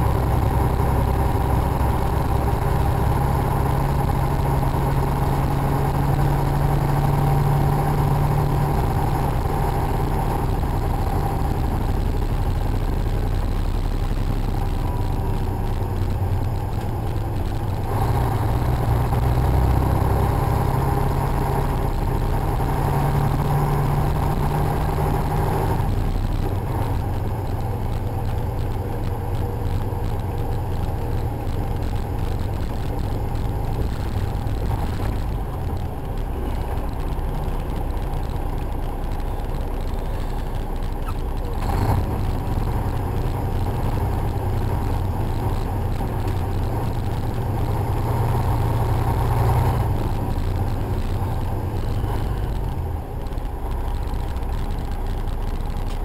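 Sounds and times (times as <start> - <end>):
truck engine and road noise: 0.0 - 56.0.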